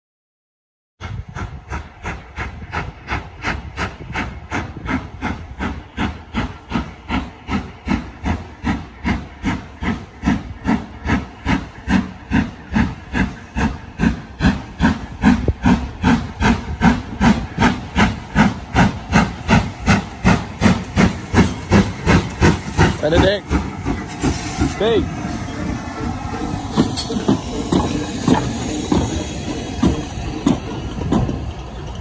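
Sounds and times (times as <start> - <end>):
steam locomotives chuffing: 1.0 - 32.0.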